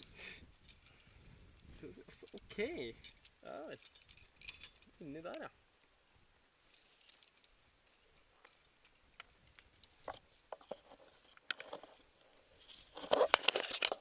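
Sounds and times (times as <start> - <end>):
carabiners clattering: 0.0 - 5.0, 6.7 - 14.0
climbing rope rustling: 0.0 - 5.2, 6.6 - 14.0.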